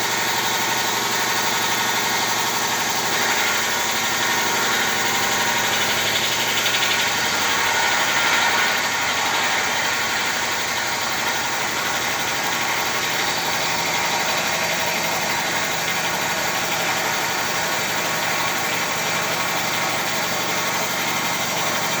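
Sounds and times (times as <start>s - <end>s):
machine running: 0.0s - 22.0s.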